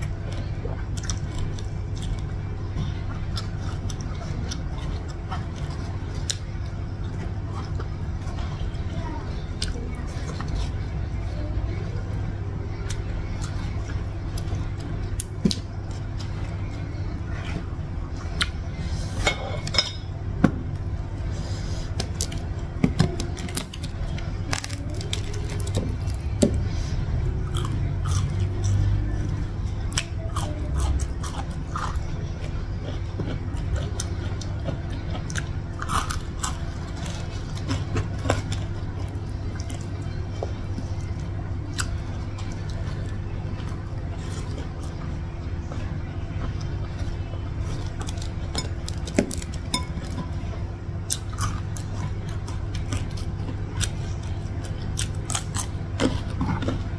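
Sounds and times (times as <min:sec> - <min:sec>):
chewing and crunching food: 0:00.0 - 0:56.9
low hum: 0:00.0 - 0:56.9.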